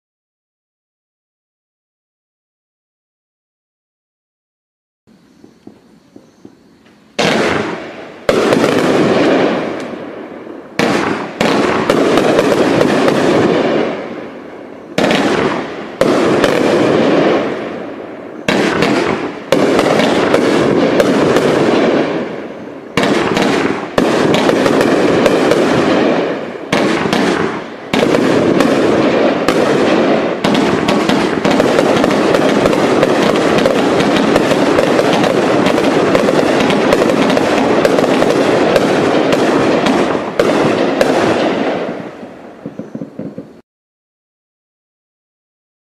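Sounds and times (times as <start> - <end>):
firework shots banging: 5.4 - 43.6.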